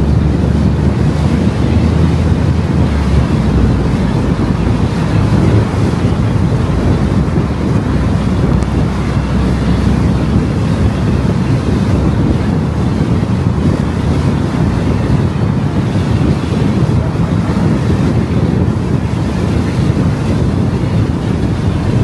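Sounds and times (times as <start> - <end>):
deep low rumble: 0.0 - 22.0
tyre and wind noise: 0.0 - 22.0.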